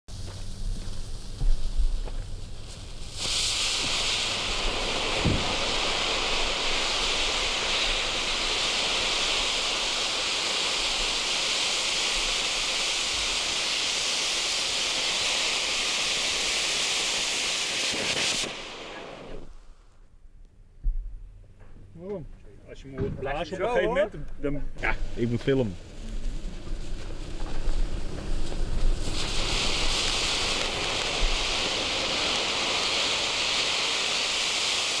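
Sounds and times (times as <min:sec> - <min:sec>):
firework fountain hissing: 0:00.1 - 0:20.1, 0:24.7 - 0:35.0.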